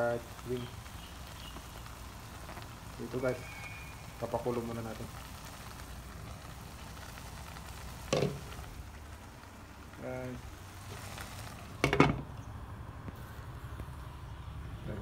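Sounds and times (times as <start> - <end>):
chicken sizzling in a frying pan: 0.0 - 14.2.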